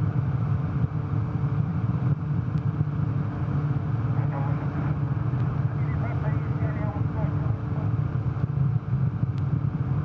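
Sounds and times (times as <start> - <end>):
faint hum: 0.0 - 10.0
low rumbling noise: 0.0 - 10.0.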